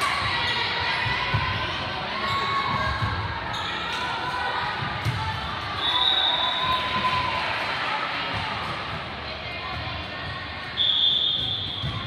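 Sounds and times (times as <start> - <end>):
voices and chatter in gym: 0.0 - 12.0.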